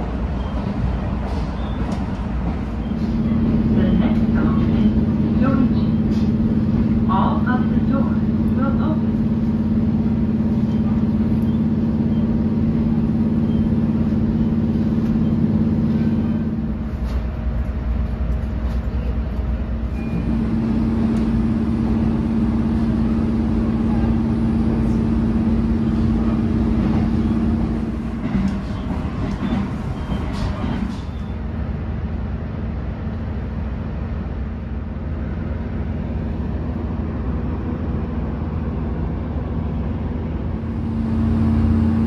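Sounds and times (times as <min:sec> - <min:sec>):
diesel railcar engine hum: 0:00.0 - 0:42.0
wheels rumbling on rails: 0:00.0 - 0:42.0.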